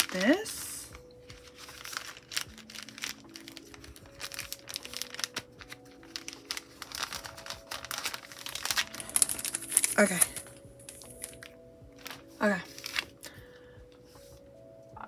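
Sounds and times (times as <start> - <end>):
packaging crinkling: 0.0 - 13.3.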